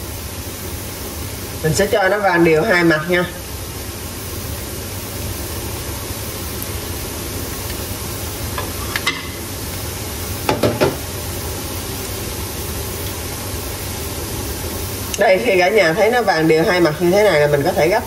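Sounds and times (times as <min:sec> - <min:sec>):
patties sizzling in oil: 0:00.0 - 0:18.0.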